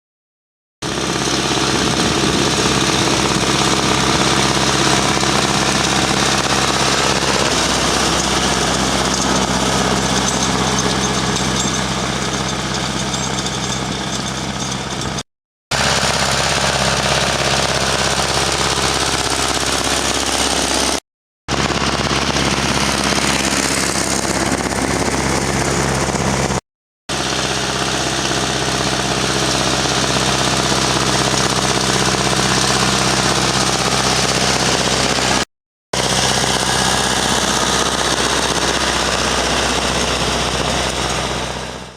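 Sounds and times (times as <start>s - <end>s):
tractor diesel engine under load: 0.8s - 41.9s.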